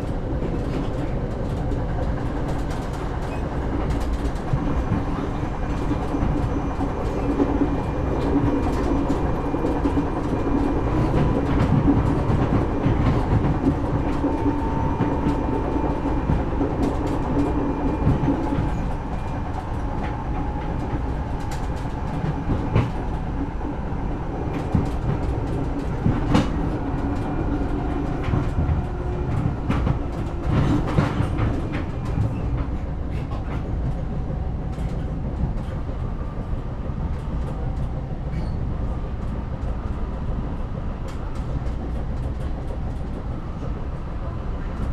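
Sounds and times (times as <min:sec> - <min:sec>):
train carriage rumble: 0:00.0 - 0:44.9.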